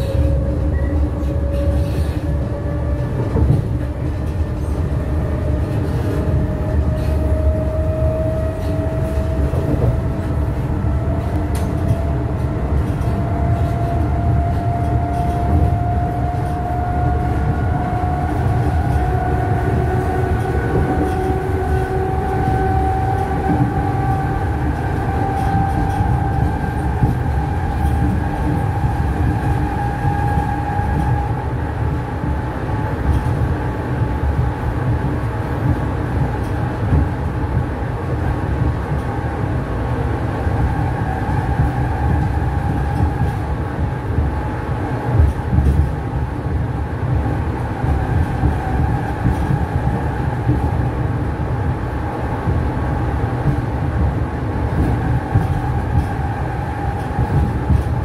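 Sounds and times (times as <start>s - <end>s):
train running gear rumble: 0.0s - 58.0s.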